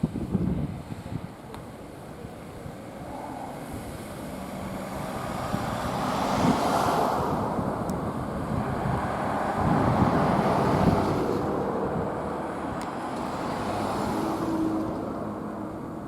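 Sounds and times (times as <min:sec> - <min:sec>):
street traffic: 0:00.0 - 0:16.0
vehicle passing: 0:02.6 - 0:16.0.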